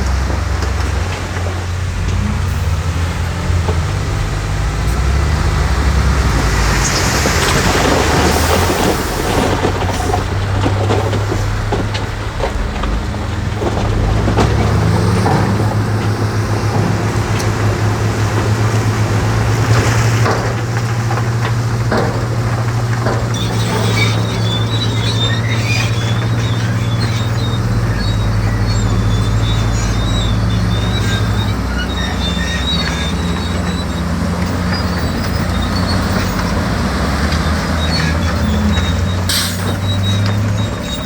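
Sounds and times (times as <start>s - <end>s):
diesel engine running under load: 0.0s - 41.0s
knocks and clatter: 0.0s - 41.0s.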